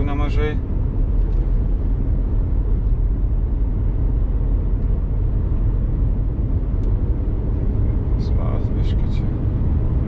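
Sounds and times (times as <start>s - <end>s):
diesel engine rumble: 0.0s - 10.0s
road noise: 0.0s - 10.0s.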